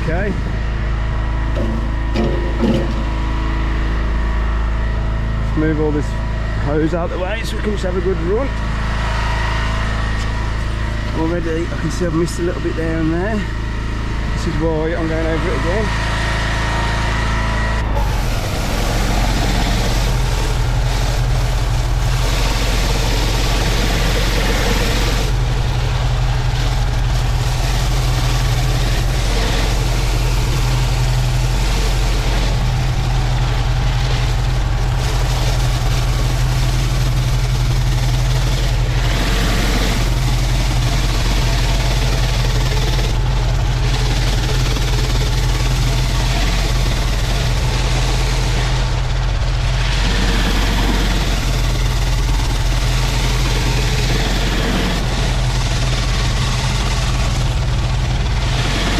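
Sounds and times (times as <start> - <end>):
pressure washer engine running: 0.0 - 58.9.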